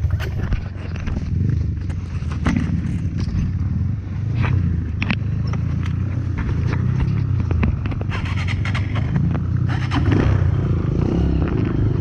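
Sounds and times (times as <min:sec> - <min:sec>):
knocks and clatter over rough ground: 0:00.0 - 0:12.0
motorcycle engine running: 0:00.0 - 0:12.0.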